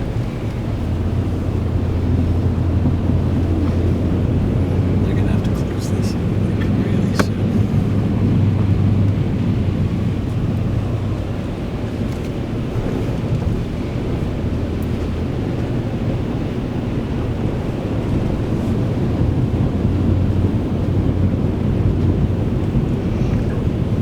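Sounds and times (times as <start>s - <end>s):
vehicle rumbling: 0.0s - 24.0s
wind buffeting microphone: 0.0s - 24.0s.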